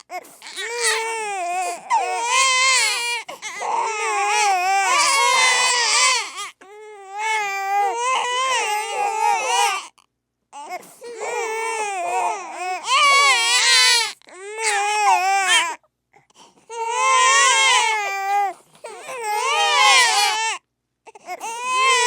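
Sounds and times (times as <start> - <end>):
infant crying hard: 0.1 - 10.0, 10.6 - 15.8, 16.7 - 20.6, 21.2 - 22.0.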